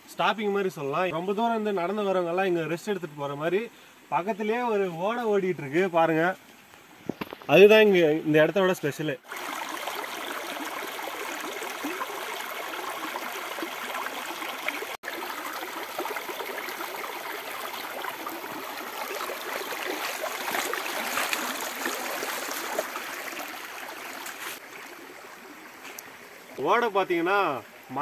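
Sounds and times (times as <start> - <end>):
stream running over rocks: 0.2 - 28.0.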